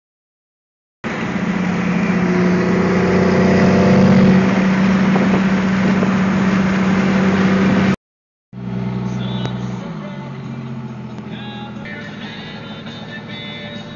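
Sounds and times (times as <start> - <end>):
diesel truck engine droning: 1.0 - 8.0, 8.6 - 13.9
road noise: 1.0 - 8.0, 8.6 - 13.9.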